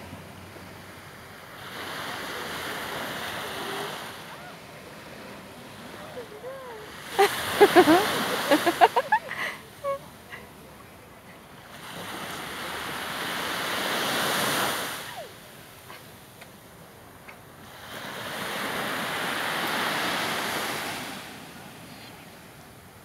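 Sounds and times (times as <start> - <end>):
waves breaking on sand: 0.0 - 23.0.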